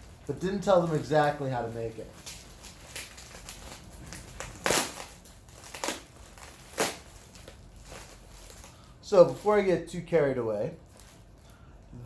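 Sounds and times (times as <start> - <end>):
packing material rustling: 0.0 - 12.0.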